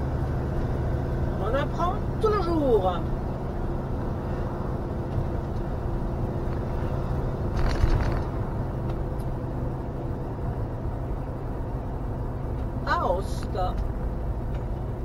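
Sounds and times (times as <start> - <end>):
vehicle engine and tyre hum: 0.0 - 15.0.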